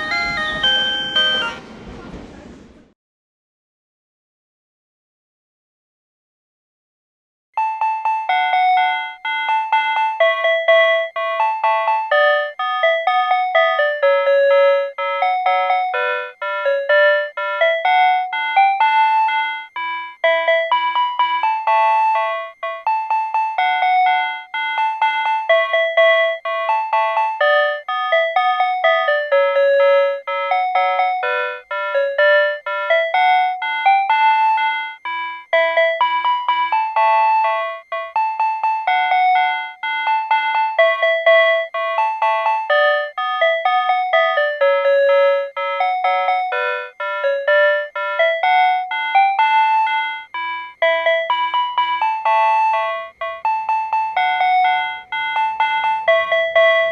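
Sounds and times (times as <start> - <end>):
electronic chime tune: 0.0 - 1.6, 7.6 - 56.9.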